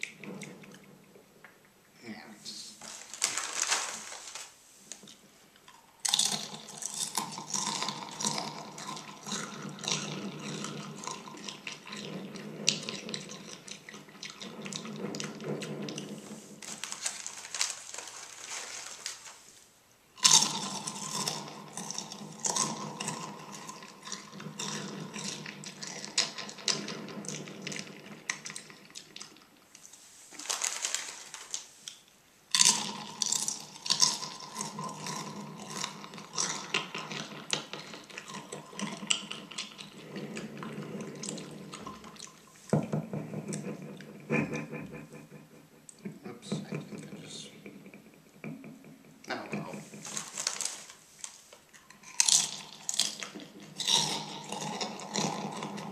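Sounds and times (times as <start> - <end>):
chips crunching with echo: 2.8 - 19.5, 20.2 - 42.7, 49.3 - 55.9.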